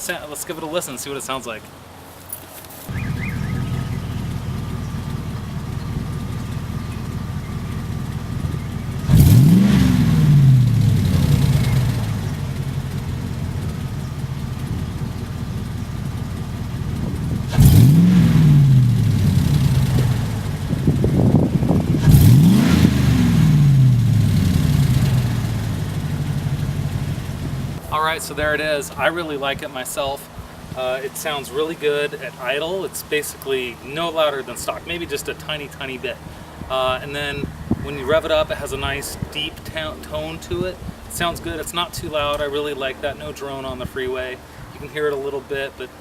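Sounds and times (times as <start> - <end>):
engine idling and revving: 2.9 - 27.9, 30.3 - 46.0.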